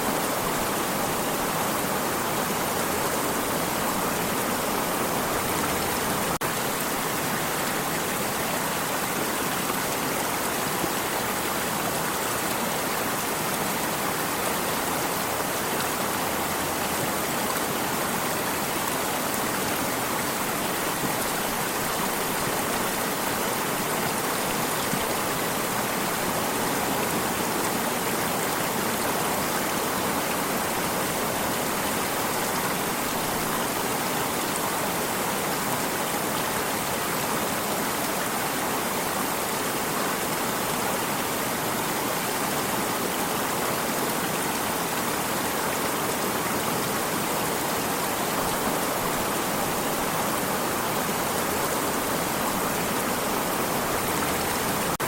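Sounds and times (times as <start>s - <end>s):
stream of water running: 0.0s - 55.0s.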